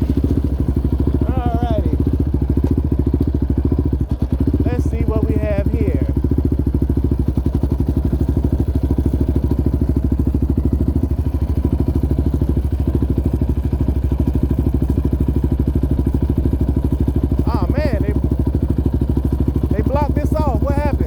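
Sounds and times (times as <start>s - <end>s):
quad engine running steadily: 0.0s - 21.0s.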